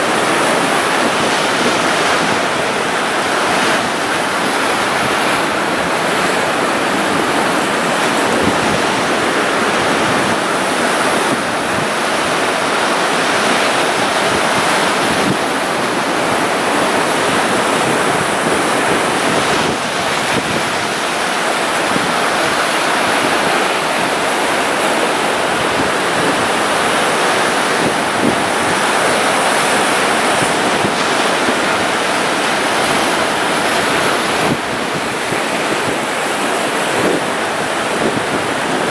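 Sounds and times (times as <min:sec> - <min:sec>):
waves breaking on rocky shore: 0:00.0 - 0:38.9.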